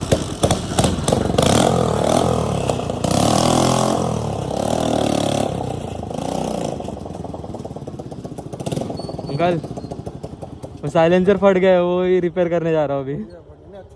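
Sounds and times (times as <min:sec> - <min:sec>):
sharp exhaust pops: 0:00.0 - 0:12.0
motorcycle engine revving: 0:00.0 - 0:12.8.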